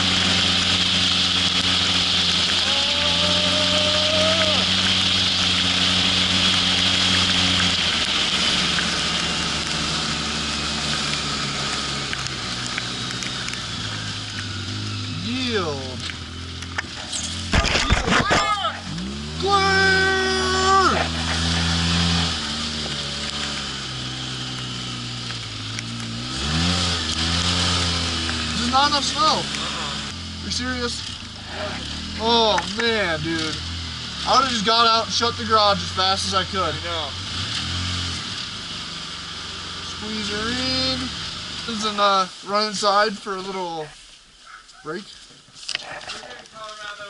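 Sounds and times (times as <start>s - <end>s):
off-road vehicle engine running: 0.0s - 47.0s.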